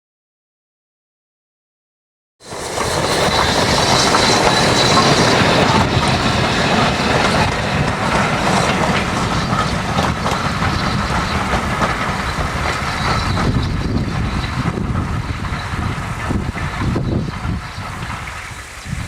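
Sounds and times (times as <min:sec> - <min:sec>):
train rolling past: 0:02.4 - 0:19.0
wheels clicking over rail joints: 0:02.5 - 0:19.0.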